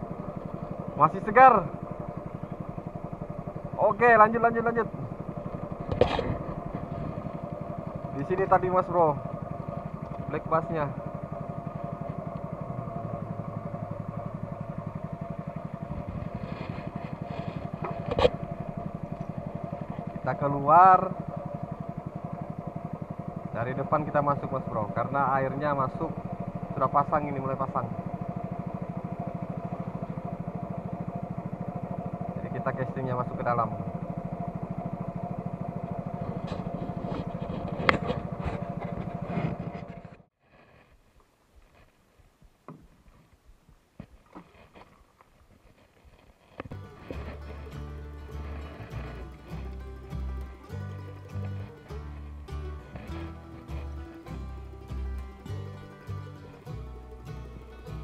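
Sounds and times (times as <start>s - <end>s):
small boat engine puttering: 0.0s - 40.4s, 44.2s - 58.0s.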